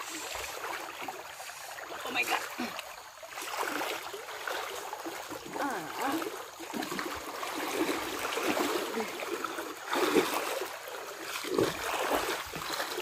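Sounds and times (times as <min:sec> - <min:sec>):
river water sloshing and gurgling: 0:00.0 - 0:13.0
water splashes: 0:00.0 - 0:13.0.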